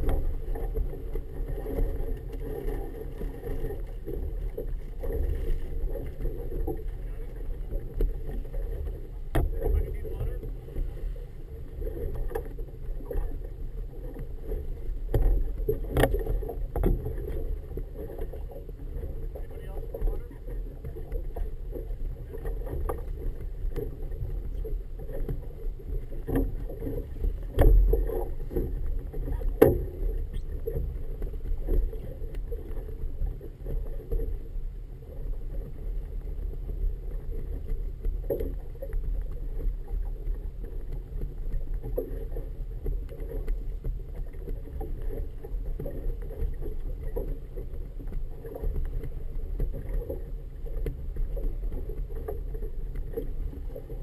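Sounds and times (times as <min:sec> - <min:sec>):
water slapping boat hull: 0:00.0 - 0:54.0
wind rumbling on microphone: 0:00.0 - 0:54.0.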